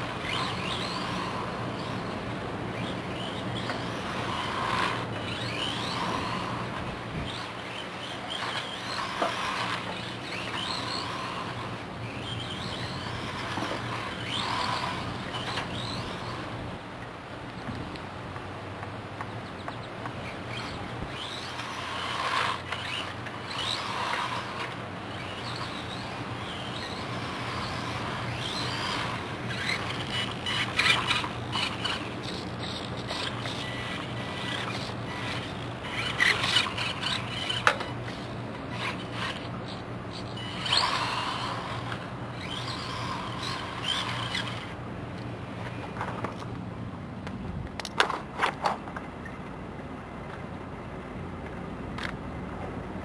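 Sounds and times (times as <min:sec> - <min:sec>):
rc truck motor whine: 0:00.0 - 0:18.1, 0:19.4 - 0:46.4
steady low hum: 0:00.0 - 0:53.0.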